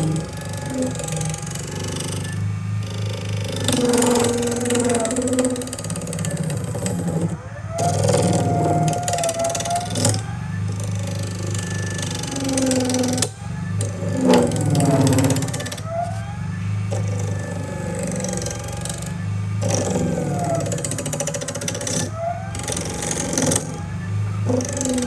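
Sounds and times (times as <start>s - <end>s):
electric power tool motor running: 0.0s - 25.0s.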